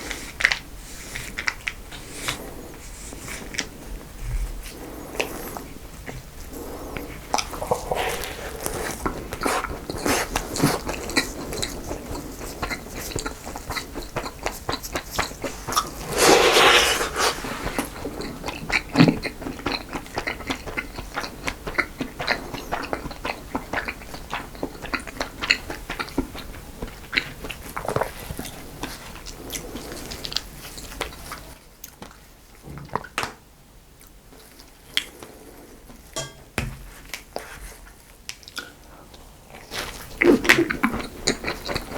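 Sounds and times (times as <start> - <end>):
person chewing cake: 0.0 - 33.1, 36.9 - 41.9.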